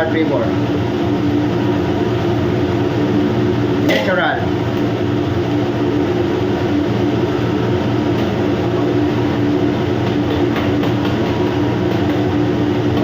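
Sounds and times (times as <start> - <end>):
machinery and ventilation drone: 0.0 - 13.0.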